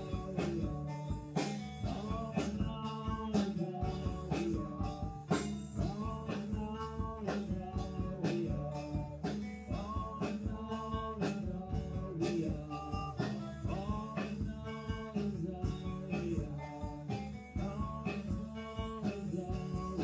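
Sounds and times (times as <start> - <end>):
drum kit beat: 0.0 - 20.0
guitar: 0.0 - 20.0
man singing: 0.0 - 20.0.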